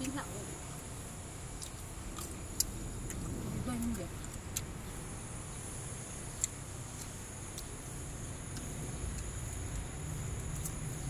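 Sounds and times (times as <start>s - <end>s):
low rumble: 0.4s - 11.0s.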